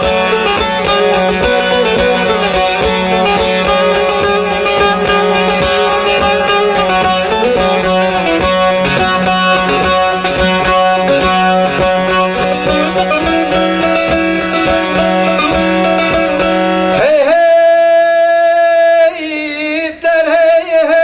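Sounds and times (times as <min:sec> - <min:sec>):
drone string: 0:00.0 - 0:17.0
plucked lute melody: 0:00.0 - 0:18.0.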